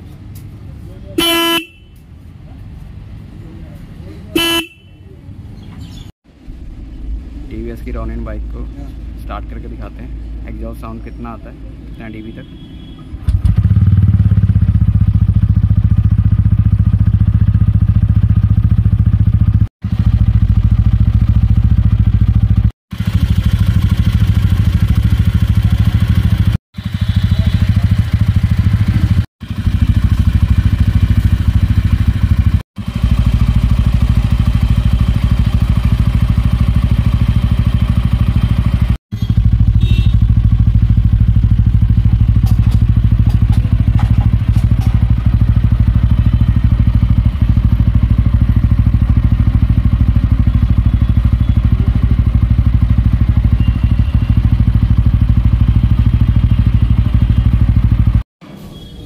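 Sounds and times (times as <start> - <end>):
motorcycle engine idling: 4.4 - 58.2.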